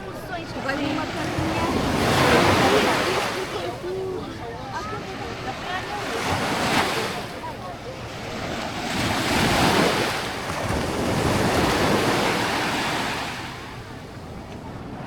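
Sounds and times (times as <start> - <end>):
small waves breaking on beach: 0.1 - 15.0.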